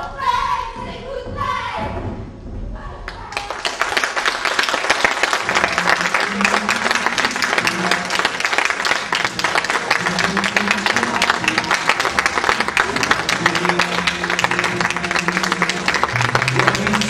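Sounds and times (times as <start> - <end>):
audience applauding: 3.3 - 17.0.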